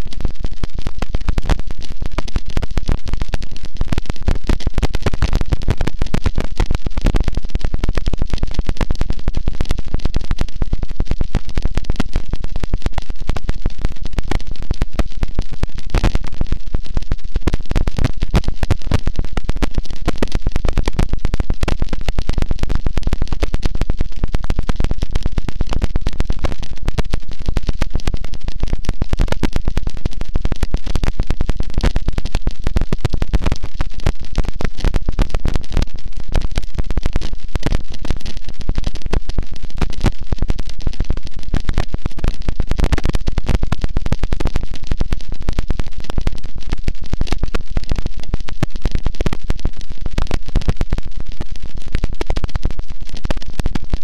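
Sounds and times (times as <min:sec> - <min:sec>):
distorted harsh noise wall: 0:00.0 - 0:48.0.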